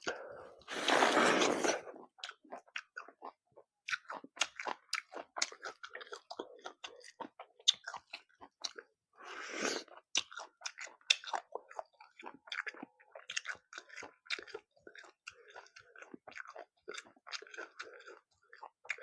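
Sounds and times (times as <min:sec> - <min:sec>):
crunchy vegetable chewing: 0:00.0 - 0:19.0.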